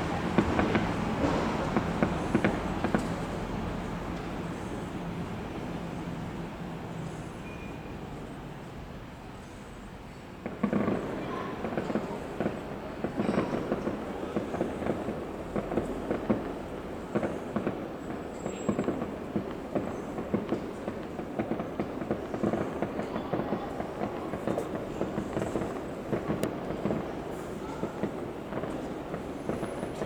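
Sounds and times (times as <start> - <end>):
fireworks crackling bangs: 0.0 - 8.3, 10.4 - 30.0.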